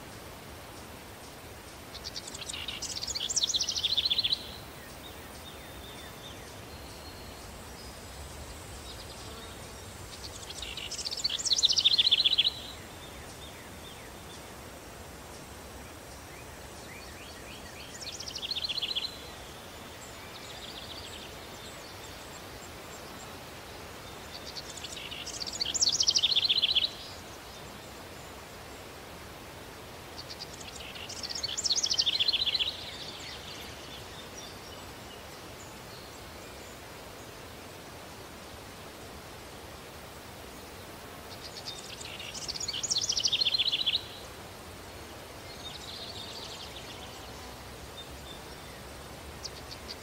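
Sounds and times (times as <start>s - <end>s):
steady hiss: 0.0s - 50.0s.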